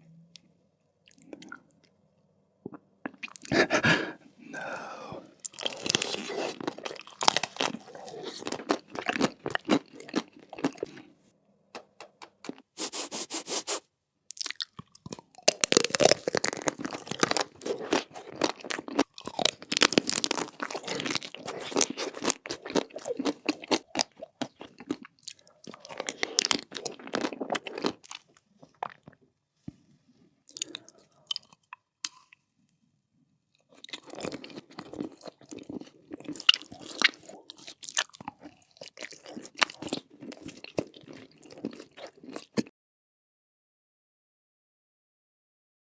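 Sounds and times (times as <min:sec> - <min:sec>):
crunchy chewing of food: 0:02.7 - 0:11.2, 0:12.4 - 0:29.9, 0:30.5 - 0:32.4, 0:33.5 - 0:42.7.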